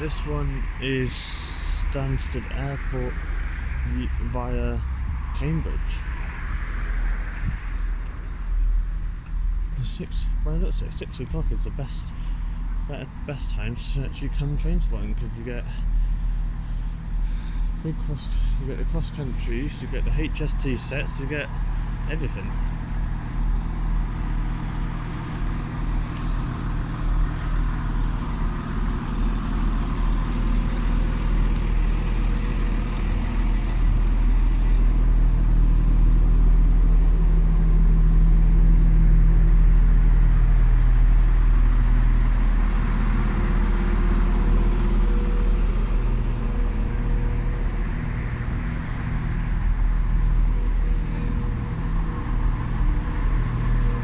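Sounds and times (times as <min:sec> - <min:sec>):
diesel train engine drone: 0:00.0 - 0:54.0.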